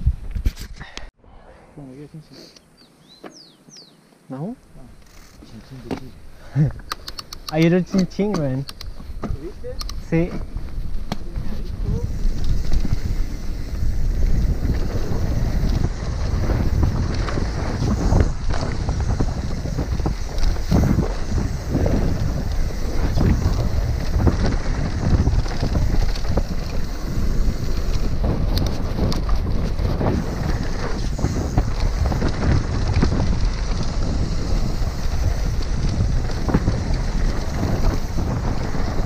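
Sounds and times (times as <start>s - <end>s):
heavy wind on microphone: 0.0s - 1.6s, 4.7s - 39.0s
tyres on loose dirt: 4.9s - 39.0s
bike knocks and rattles: 6.7s - 39.0s.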